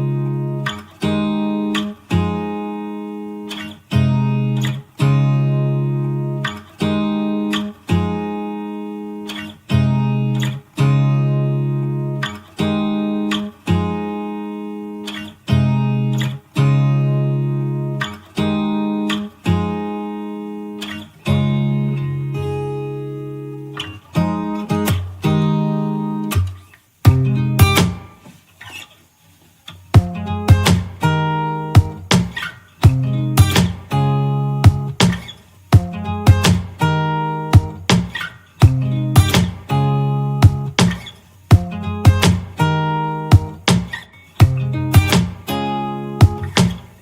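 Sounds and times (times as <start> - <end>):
guitar strumming chords: 0.0 - 28.9, 29.7 - 47.0.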